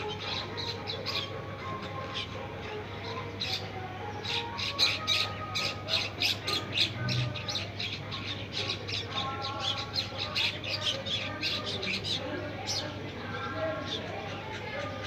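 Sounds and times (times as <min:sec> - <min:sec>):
birds squawking: 0:00.0 - 0:15.0.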